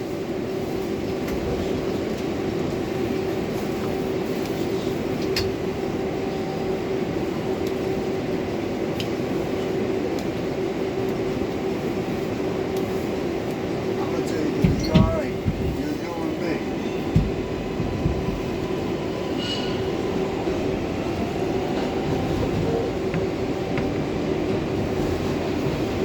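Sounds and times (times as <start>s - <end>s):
train wheels rumbling on rails: 0.0s - 26.0s
constant hum: 0.1s - 26.0s.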